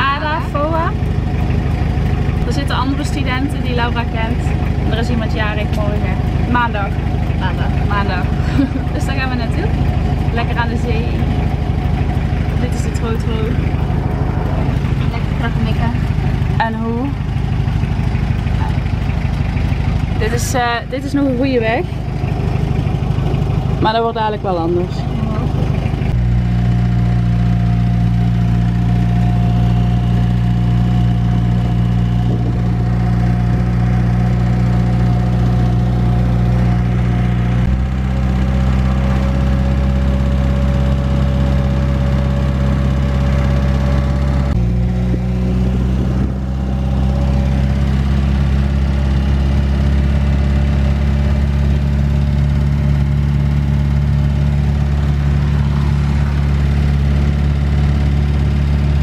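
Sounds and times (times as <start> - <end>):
minibus engine drone: 0.0 - 59.0
road noise: 0.0 - 59.0.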